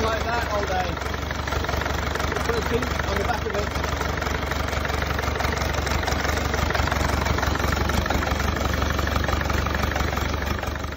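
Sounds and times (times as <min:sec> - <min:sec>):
diesel engine idling: 0:00.0 - 0:10.9.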